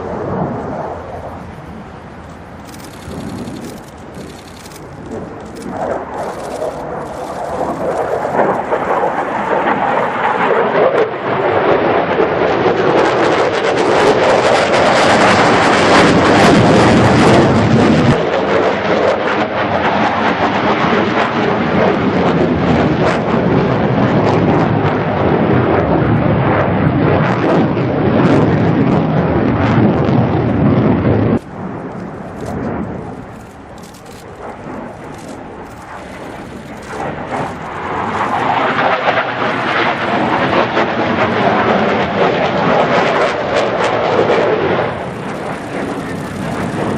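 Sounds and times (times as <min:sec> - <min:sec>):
jet fighter roaring past: 0:00.0 - 0:46.9.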